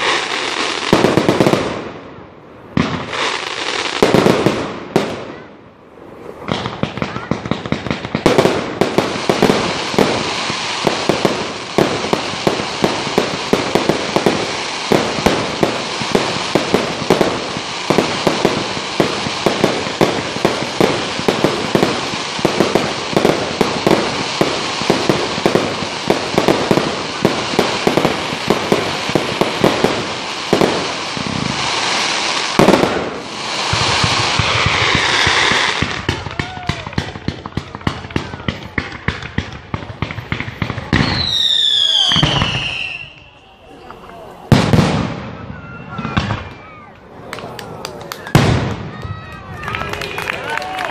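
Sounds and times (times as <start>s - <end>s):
fireworks hiss: 0.0s - 2.0s, 2.9s - 5.3s, 5.9s - 46.3s
fireworks pops and bangs: 0.0s - 2.0s, 2.7s - 5.5s, 6.4s - 50.9s
fireworks crackle: 0.0s - 50.9s.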